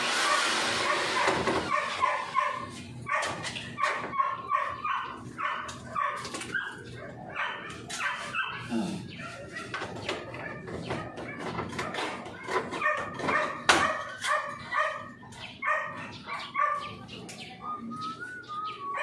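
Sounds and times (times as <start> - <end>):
dog barking: 0.2 - 17.0.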